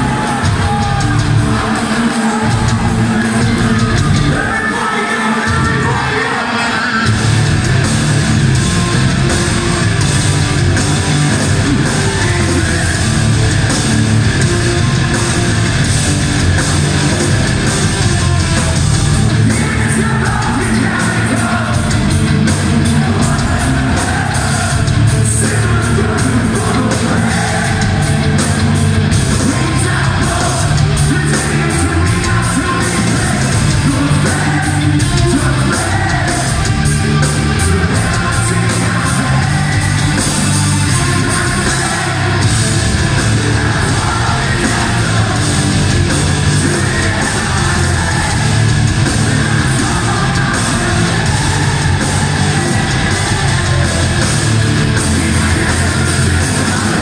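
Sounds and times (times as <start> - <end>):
metal band playing live: 0.0 - 57.0.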